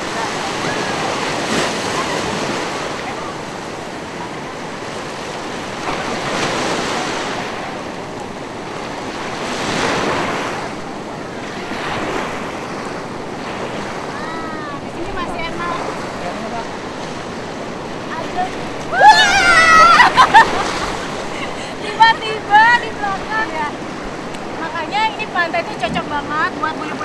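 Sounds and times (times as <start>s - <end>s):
surf breaking on beach: 0.0s - 27.0s.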